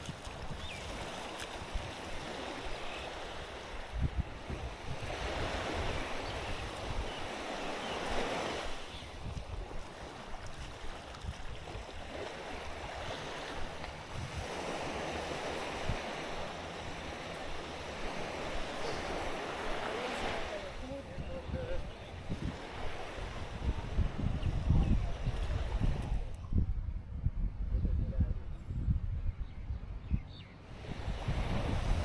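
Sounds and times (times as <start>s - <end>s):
small waves washing onto beach: 0.0s - 26.4s, 30.6s - 32.0s
wind buffeting microphone: 0.0s - 32.0s.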